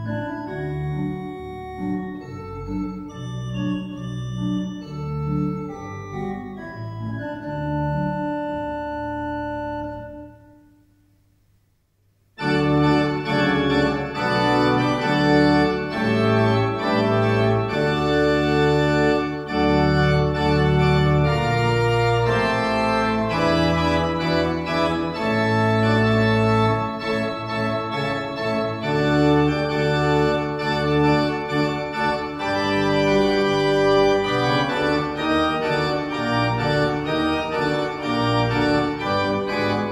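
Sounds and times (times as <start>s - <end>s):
pipe organ playing chords: 0.0s - 10.9s, 12.4s - 39.9s.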